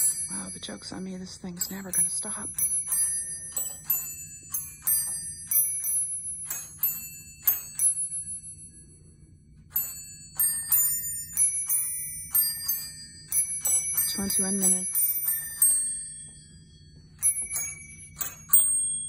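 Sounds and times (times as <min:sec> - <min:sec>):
small bells chiming a melody: 0:00.0 - 0:19.0.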